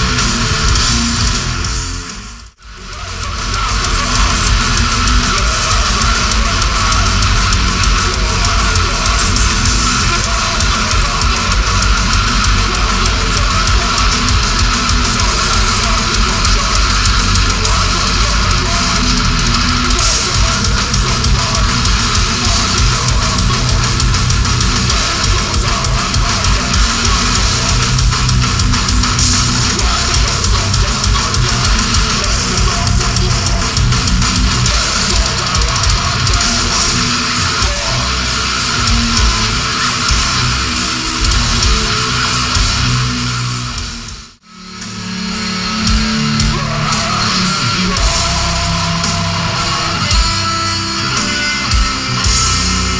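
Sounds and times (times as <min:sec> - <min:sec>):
bass guitar: 0:00.0 - 0:52.9
distorted electric guitars: 0:00.0 - 0:52.9
fast pounding drum kit: 0:00.0 - 0:52.9.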